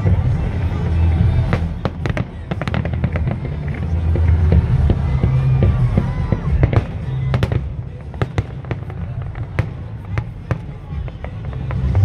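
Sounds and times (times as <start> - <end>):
fireworks bangs and cracks: 0.0 - 12.0
music with heavy bass: 0.0 - 12.0.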